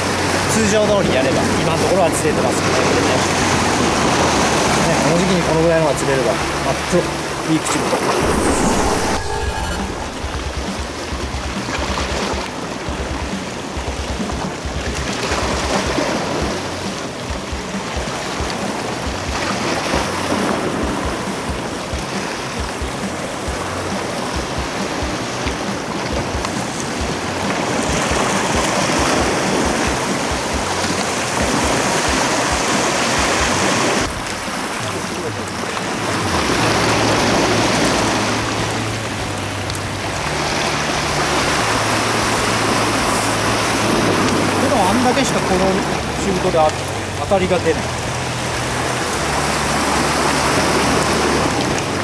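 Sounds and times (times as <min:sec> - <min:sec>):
surf lapping on rocky shore: 0:00.0 - 0:09.6, 0:10.5 - 0:52.0.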